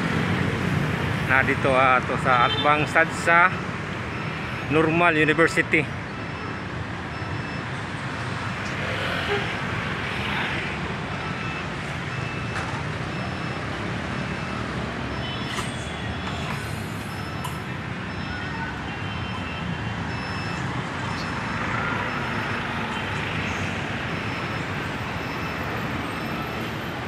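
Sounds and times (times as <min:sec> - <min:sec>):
street traffic hum: 0:00.0 - 0:27.0.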